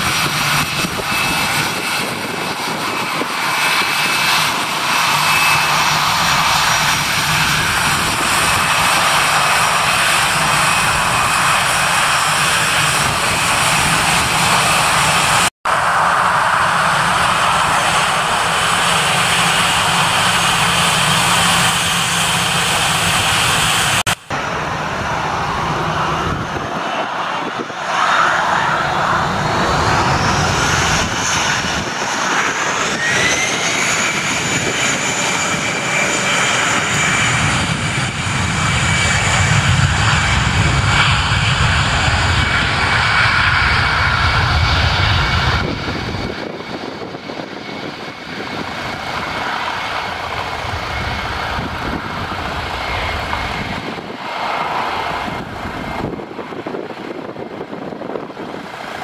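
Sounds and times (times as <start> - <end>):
jet engines high whine: 0.0 - 59.0.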